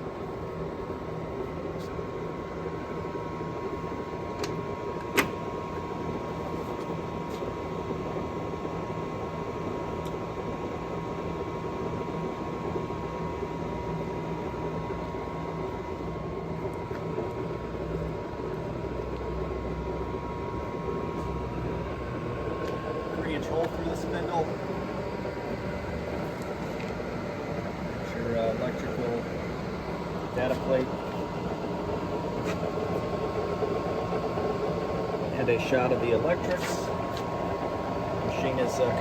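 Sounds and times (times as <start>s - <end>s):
lathe humming with faint whine: 0.0s - 39.0s.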